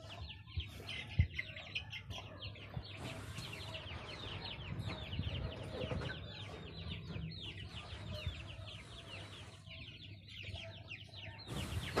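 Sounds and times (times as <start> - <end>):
chicks peeping: 0.0 - 12.0
low bird sounds: 0.0 - 12.0.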